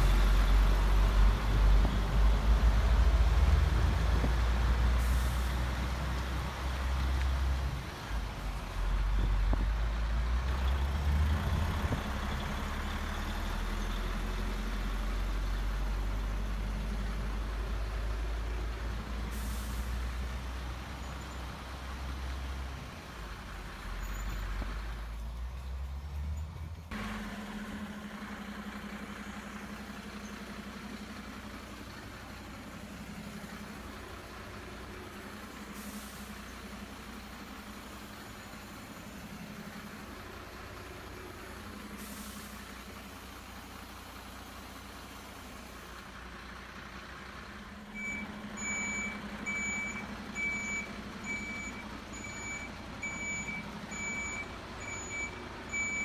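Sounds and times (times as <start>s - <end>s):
quiet steady engine hum: 0.0s - 56.0s
simulated diesel engine rumble: 0.0s - 56.0s.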